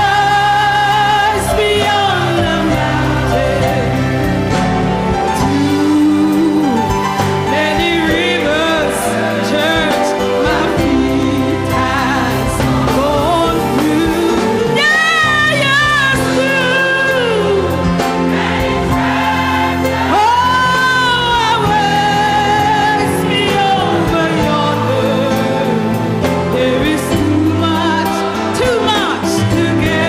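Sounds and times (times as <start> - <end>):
gospel choir singing: 0.0 - 30.0
lead vocalist singing with vibrato: 0.0 - 30.0.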